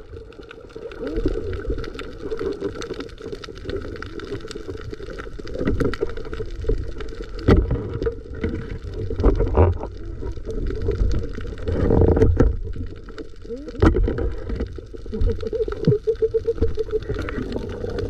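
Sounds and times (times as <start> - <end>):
muffled underwater rushing water: 0.0 - 18.0.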